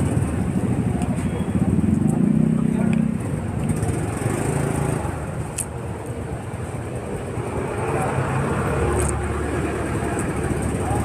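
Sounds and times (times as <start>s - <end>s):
steady traffic noise: 0.0s - 11.0s
vehicle engine running close: 0.0s - 11.0s.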